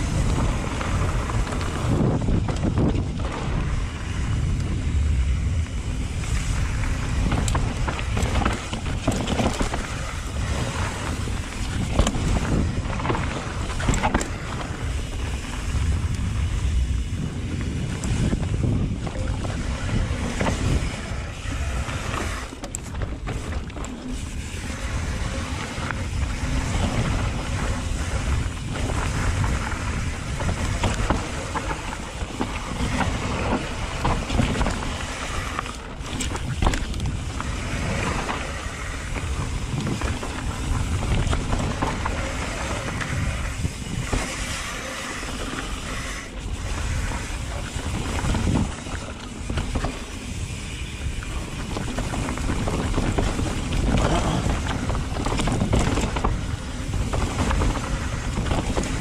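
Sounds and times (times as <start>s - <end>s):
bike knocking and rattling: 0.0s - 59.0s
bike tyres rolling on dirt: 0.0s - 59.0s
wind on microphone: 0.0s - 59.0s.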